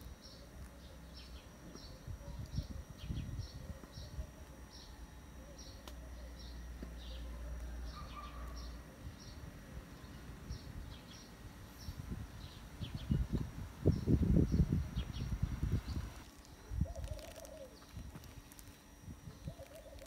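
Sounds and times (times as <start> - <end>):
small bird chirping: 0.1 - 20.0.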